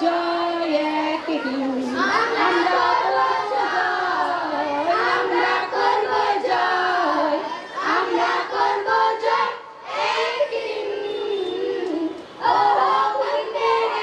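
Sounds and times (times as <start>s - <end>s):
children singing into microphones: 0.0s - 14.0s.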